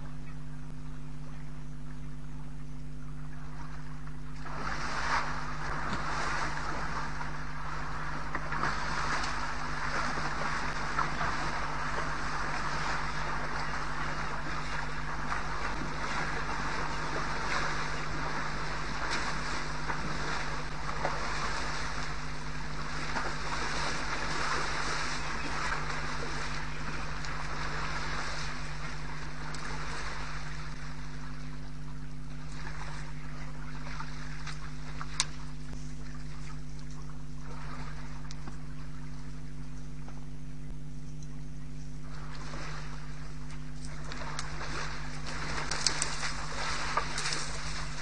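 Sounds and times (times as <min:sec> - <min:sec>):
electrical hum: 0:00.0 - 0:48.0
water sloshing and splashing: 0:01.6 - 0:48.0.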